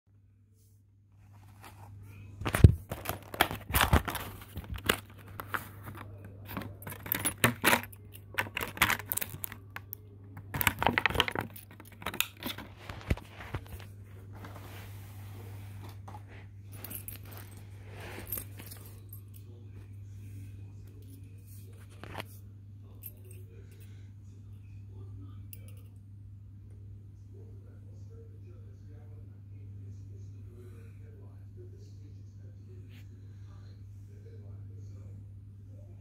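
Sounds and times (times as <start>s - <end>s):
steady low hum: 0.2s - 36.0s.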